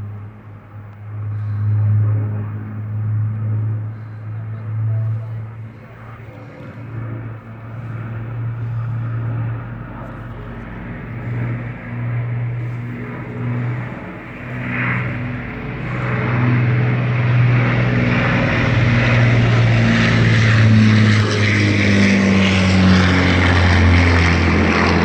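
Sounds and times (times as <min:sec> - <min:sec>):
propeller aircraft engine humming: 0:00.0 - 0:25.0.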